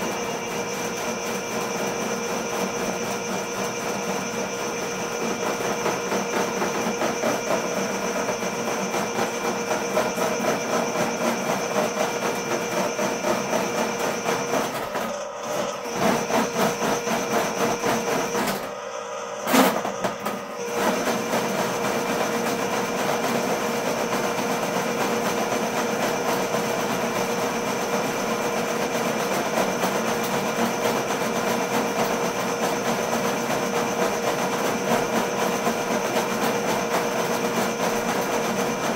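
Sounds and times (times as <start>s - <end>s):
drain machine motor whining: 0.0s - 38.9s.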